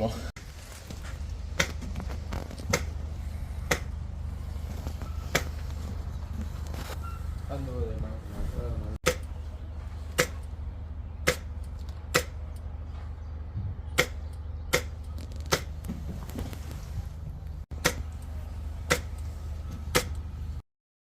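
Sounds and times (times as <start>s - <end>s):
low rumble: 0.4s - 20.6s.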